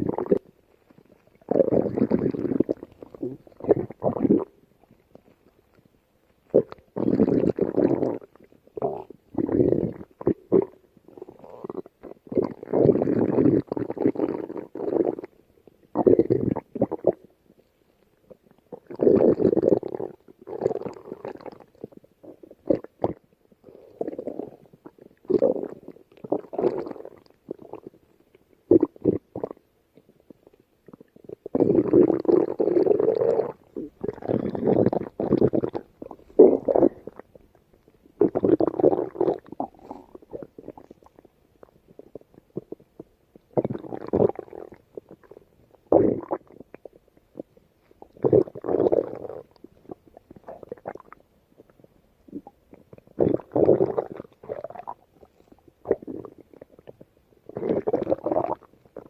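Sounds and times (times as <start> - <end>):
stomach growling: 0.0 - 59.0.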